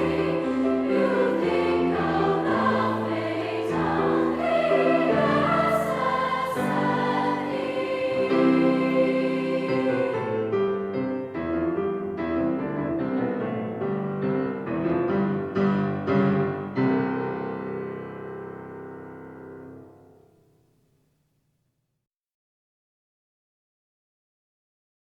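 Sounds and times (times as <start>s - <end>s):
piano playing: 0.0s - 20.7s.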